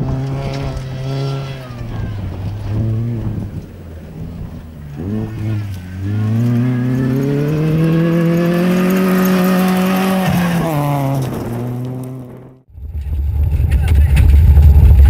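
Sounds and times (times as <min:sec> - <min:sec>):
rally car engine passing: 0:00.0 - 0:12.7.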